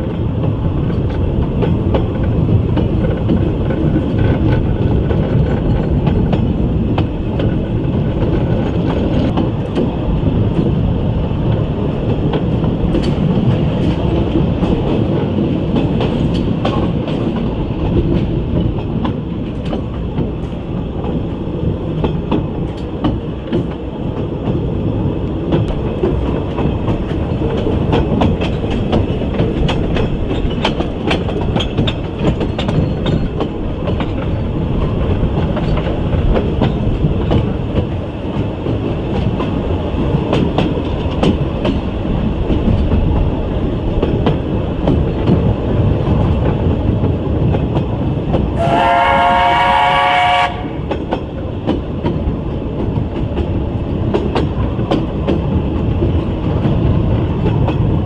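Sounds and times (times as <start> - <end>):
rail joint clicks: 0.0 - 58.0
train wheels rumbling on track: 0.0 - 58.0.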